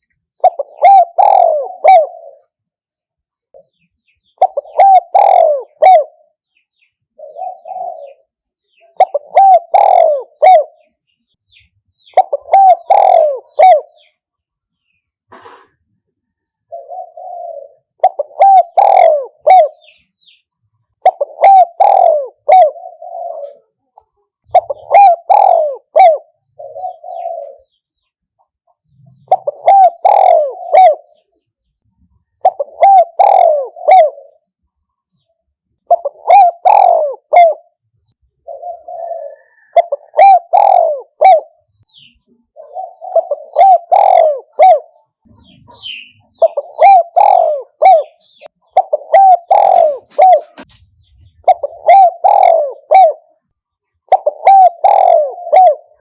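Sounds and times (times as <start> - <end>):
dove cooing: 0.0 - 2.6, 4.3 - 6.4, 7.1 - 10.9, 11.5 - 14.2, 16.6 - 20.3, 20.9 - 27.9, 28.7 - 31.3, 32.2 - 34.6, 35.8 - 56.0.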